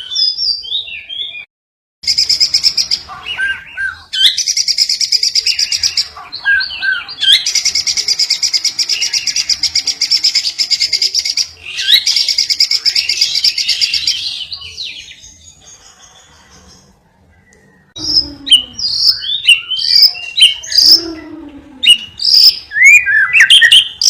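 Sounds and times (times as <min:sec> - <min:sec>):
bird chirps: 0:00.0 - 0:24.0.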